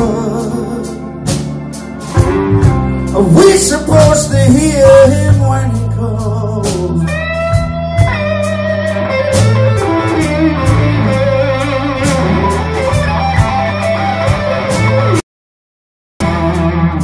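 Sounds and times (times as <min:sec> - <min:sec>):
bass guitar: 0:00.0 - 0:15.2, 0:16.2 - 0:17.0
drums with steady cymbal beat: 0:00.0 - 0:15.2
electric guitar lead: 0:00.0 - 0:15.2, 0:16.2 - 0:17.0.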